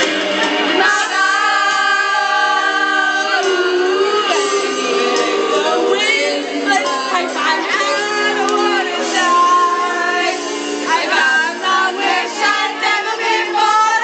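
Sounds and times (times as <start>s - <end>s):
women singing together: 0.6s - 14.0s.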